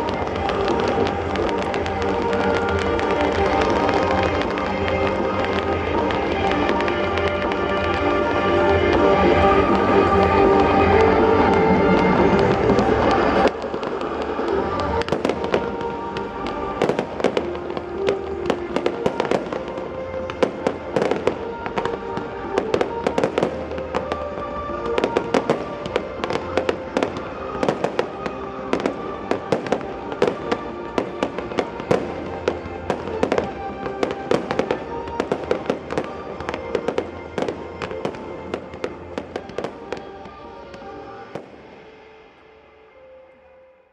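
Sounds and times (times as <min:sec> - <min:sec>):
fireworks bangs and crackling: 0:00.0 - 0:43.7
music with held notes: 0:00.0 - 0:43.9.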